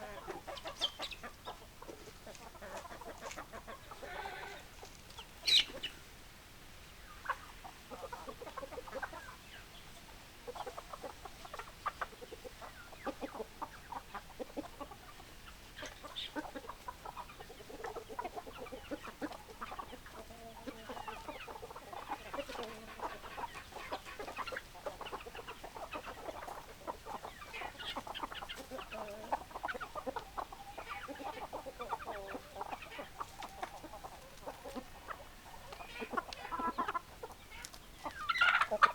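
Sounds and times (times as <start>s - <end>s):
hens clucking: 0.0s - 38.9s.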